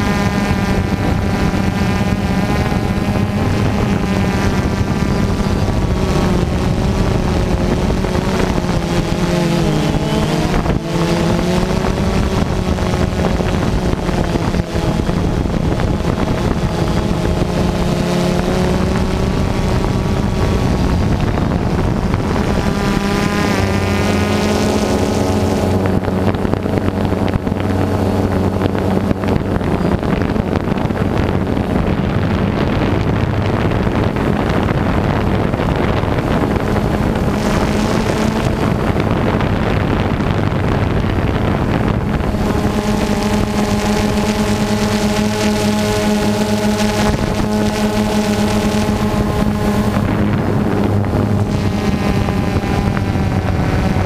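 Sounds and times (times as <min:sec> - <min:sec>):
drone propellers buzzing: 0:00.0 - 0:54.0
wind on microphone: 0:00.0 - 0:54.0.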